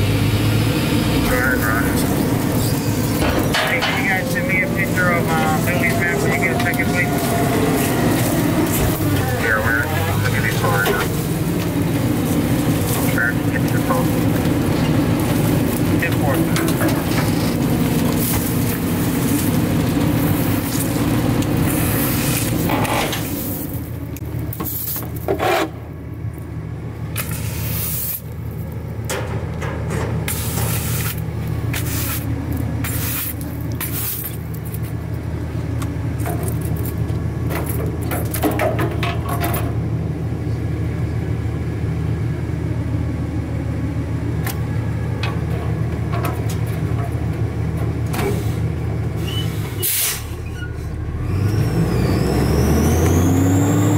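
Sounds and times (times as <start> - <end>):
garbage truck engine running: 0.0 - 53.9.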